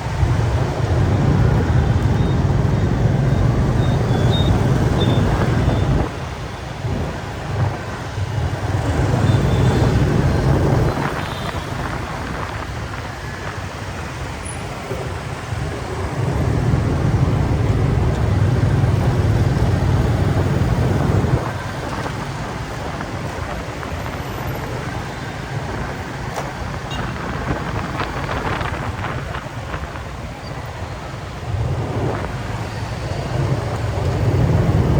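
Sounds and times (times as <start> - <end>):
vehicle engines rumbling: 0.0 - 34.9.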